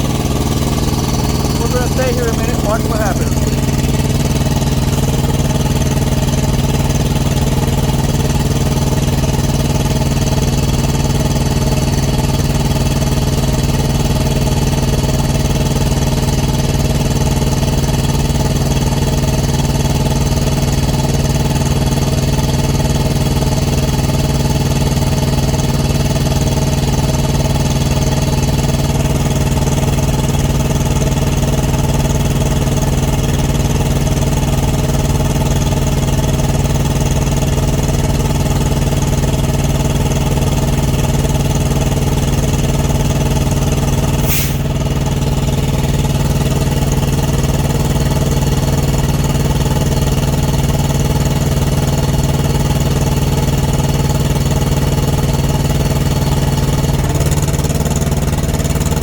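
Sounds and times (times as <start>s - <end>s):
small diesel engine running: 0.0s - 59.0s.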